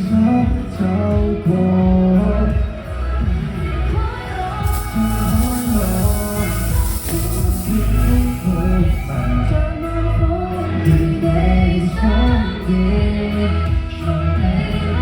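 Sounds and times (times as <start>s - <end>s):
band playing pop-rock: 0.0s - 15.0s
person singing: 0.0s - 15.0s.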